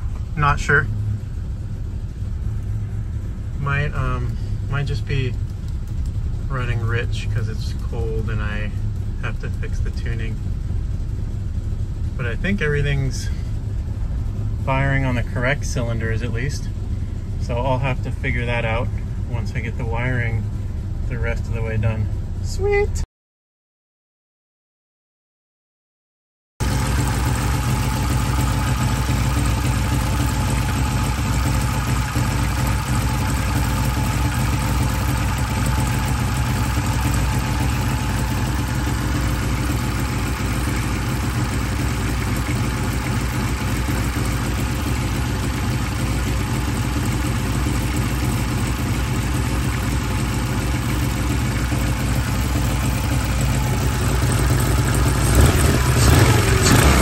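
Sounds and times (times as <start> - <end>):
car engine idling: 0.0 - 23.0, 26.6 - 57.0.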